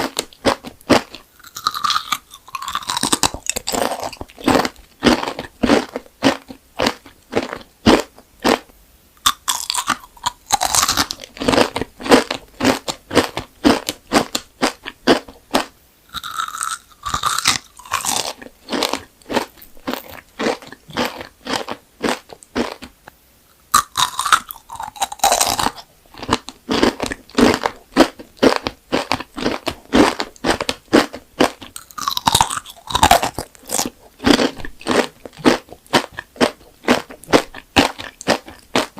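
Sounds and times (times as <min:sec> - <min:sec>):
crunching hard candy: 0:00.0 - 0:38.9.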